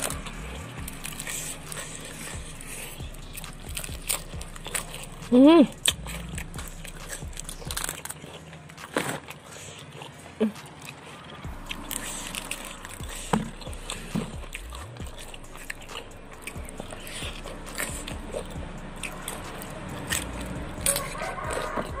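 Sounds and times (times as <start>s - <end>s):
chewing crunchy lettuce: 0.0s - 22.0s.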